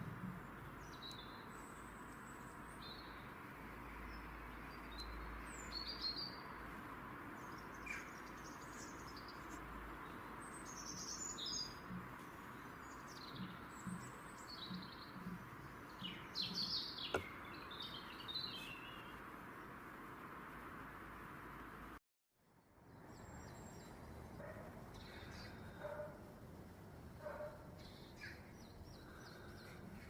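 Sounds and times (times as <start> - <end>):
birds chirping: 0.0 - 19.9, 23.1 - 26.3, 27.2 - 30.0.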